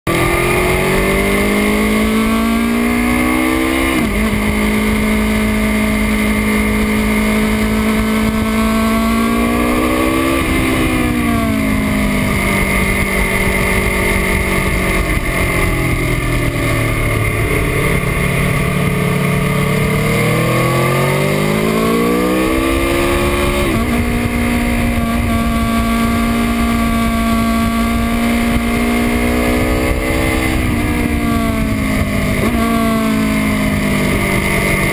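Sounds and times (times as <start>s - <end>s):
motorcycle engine revving: 0.1s - 34.9s
wind noise: 0.1s - 34.9s.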